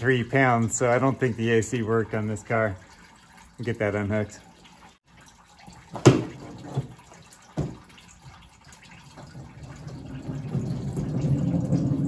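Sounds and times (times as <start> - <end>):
liquid splashing into container: 0.4 - 12.0.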